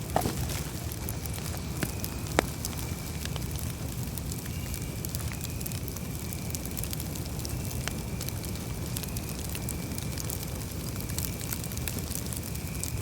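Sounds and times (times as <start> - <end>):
campfire flames rushing: 0.0 - 13.0
fire crackles and pops: 0.0 - 13.0.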